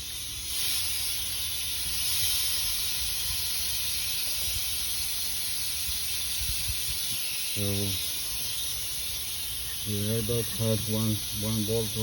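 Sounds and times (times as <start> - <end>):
refrigerant venting hiss: 0.0 - 12.0.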